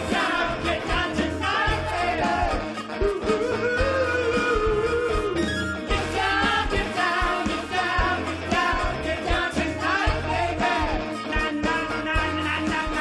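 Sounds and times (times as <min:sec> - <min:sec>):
lead singer singing: 0:00.0 - 0:13.0
rock band playing: 0:00.0 - 0:13.0.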